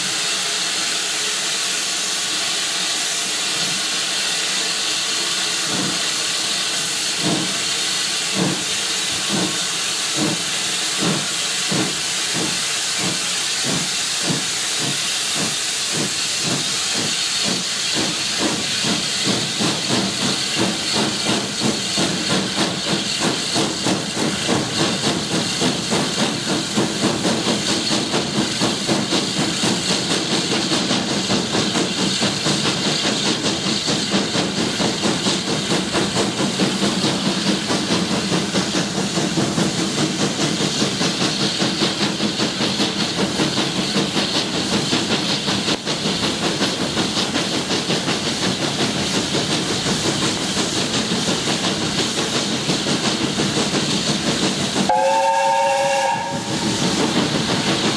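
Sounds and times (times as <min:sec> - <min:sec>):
steam hissing: 0:00.0 - 0:57.9
steam locomotive exhaust beats: 0:00.0 - 0:57.9.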